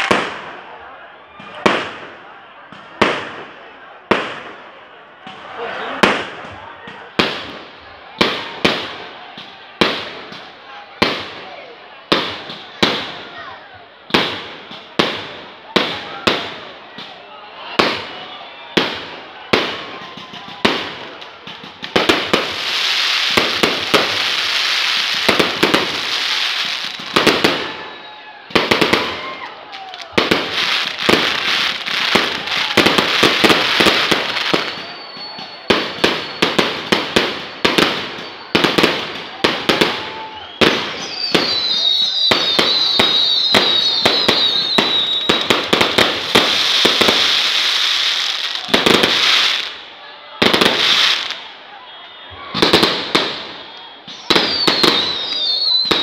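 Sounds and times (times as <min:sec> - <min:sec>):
fireworks crackling: 0:00.0 - 0:00.8, 0:02.7 - 0:51.8, 0:52.4 - 0:56.0
fireworks bangs: 0:00.0 - 0:13.4, 0:14.0 - 0:51.7, 0:52.3 - 0:56.0.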